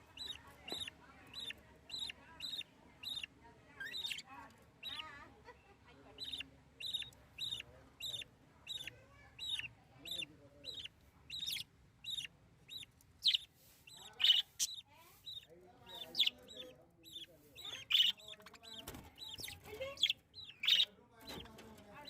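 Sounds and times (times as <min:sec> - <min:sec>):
lovebird chirping: 0:00.0 - 0:05.1, 0:06.1 - 0:22.0.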